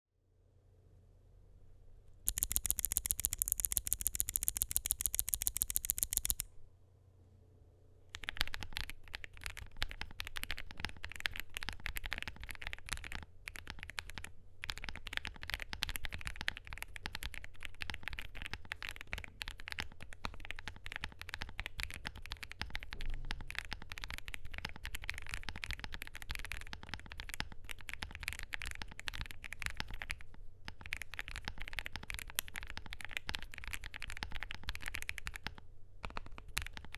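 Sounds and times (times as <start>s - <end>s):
typing on mechanical keyboard: 2.3s - 6.5s, 8.2s - 36.9s.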